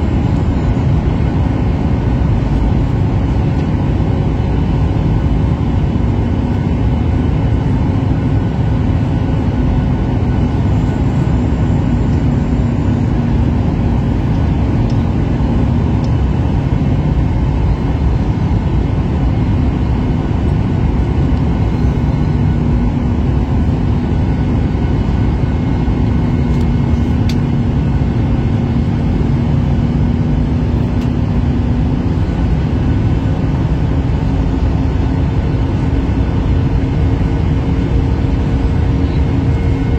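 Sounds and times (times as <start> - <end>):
aircraft engine and airflow drone: 0.0 - 39.9.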